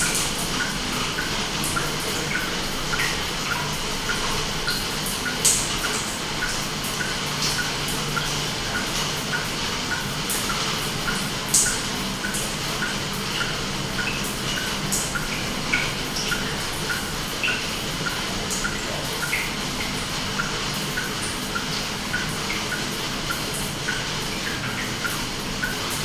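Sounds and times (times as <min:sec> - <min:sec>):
sharp drip clicks: 0:00.0 - 0:26.0
water drops plinking: 0:00.0 - 0:26.0.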